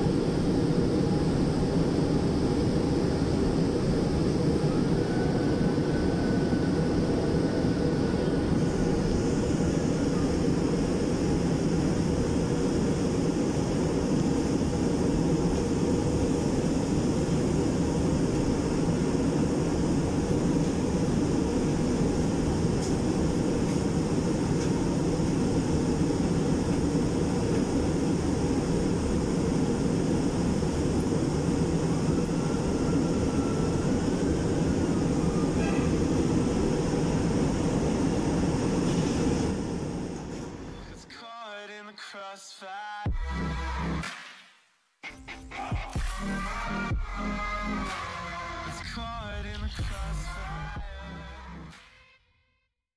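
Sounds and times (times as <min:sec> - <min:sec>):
faint train whine: 0:00.0 - 0:41.8, 0:43.1 - 0:44.0, 0:45.0 - 0:52.1.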